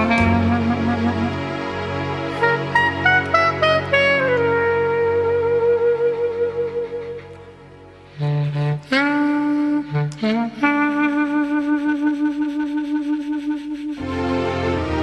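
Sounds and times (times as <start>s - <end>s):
instrumental accompaniment: 0.0s - 15.0s
solo wind instrument: 0.0s - 15.0s.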